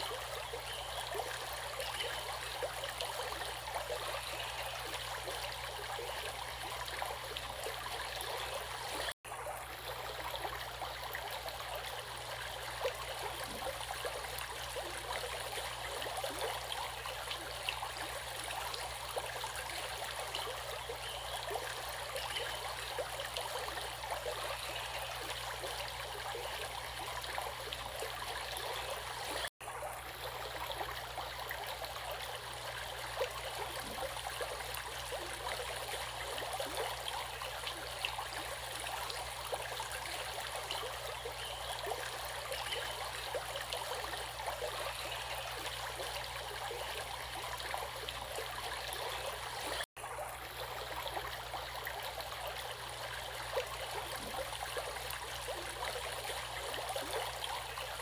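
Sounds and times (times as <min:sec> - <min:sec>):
stream water running: 0:00.0 - 0:58.0.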